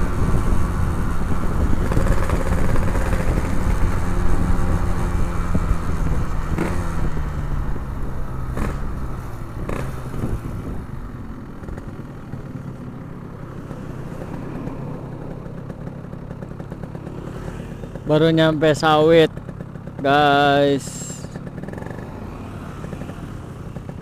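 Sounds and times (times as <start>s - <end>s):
two-stroke motorcycle engine: 0.0s - 24.0s.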